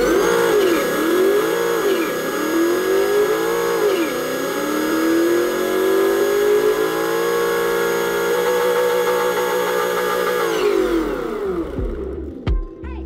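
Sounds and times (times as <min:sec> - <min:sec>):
simulated car engine revving: 0:00.0 - 0:12.5.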